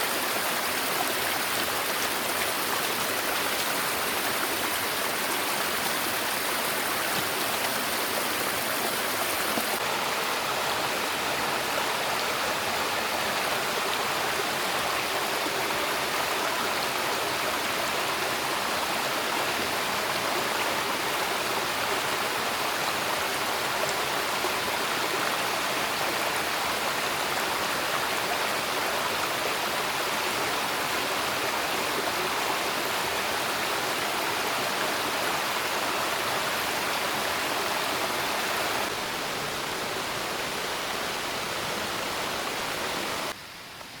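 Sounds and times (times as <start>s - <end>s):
flowing water rushing: 0.0s - 43.6s.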